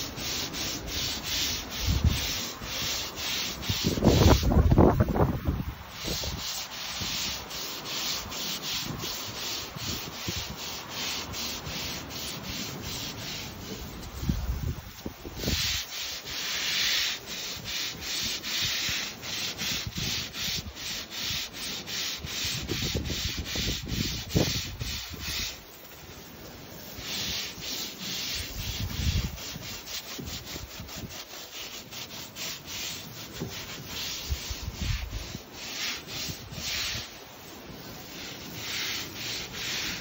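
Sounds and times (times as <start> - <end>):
deck brush scrubbing boards: 0.0 - 40.0.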